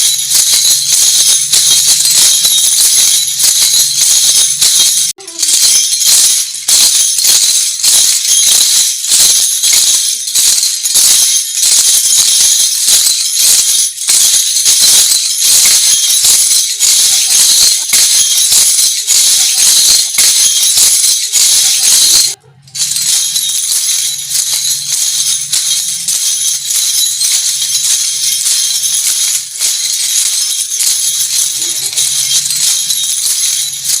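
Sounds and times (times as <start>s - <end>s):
jingle discs shaken: 0.0s - 34.0s.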